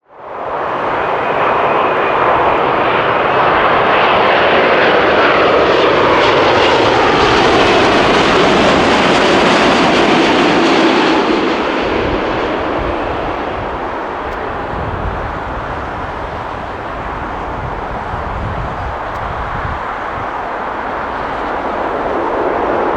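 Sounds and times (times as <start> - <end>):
jet airliner passing: 0.2 - 22.9.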